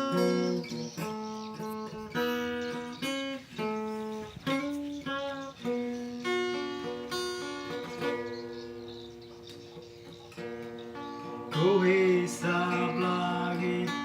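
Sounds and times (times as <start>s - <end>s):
guitar chords ringing: 0.0s - 14.0s.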